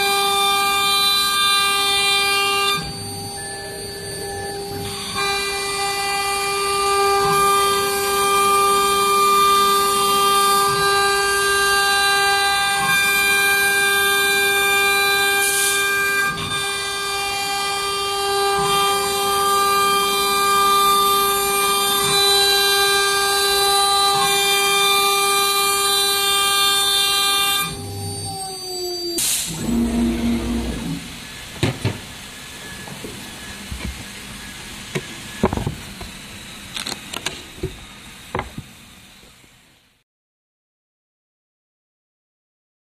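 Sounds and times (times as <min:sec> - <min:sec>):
router spindle high-pitched whine: 0:00.0 - 0:38.3.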